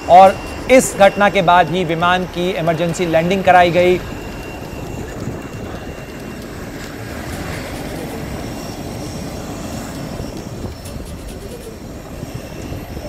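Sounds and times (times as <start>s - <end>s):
jet engine and airflow noise: 0.0s - 13.0s.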